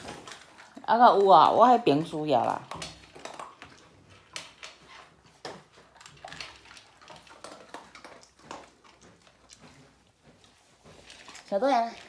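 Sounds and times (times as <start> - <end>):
dog crunching kibble: 0.0 - 12.0.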